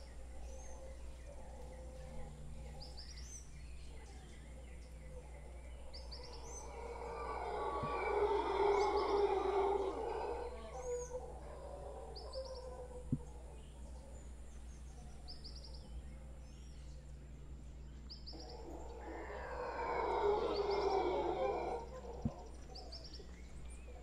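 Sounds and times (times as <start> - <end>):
howler monkeys roaring: 0.0 - 16.6, 18.3 - 24.0
bird chirping: 0.0 - 24.0.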